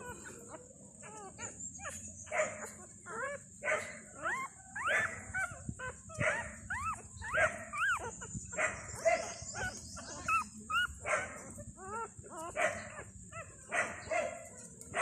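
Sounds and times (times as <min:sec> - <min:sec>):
puppies squeaking and whining: 0:00.0 - 0:15.0.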